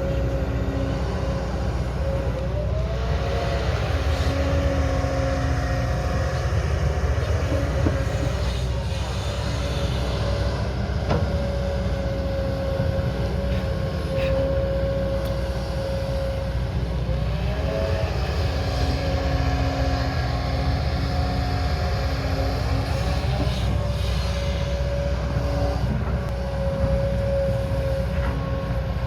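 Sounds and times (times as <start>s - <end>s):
diesel excavator engine rumbling: 0.0s - 29.0s
steady machine whine: 0.0s - 29.0s.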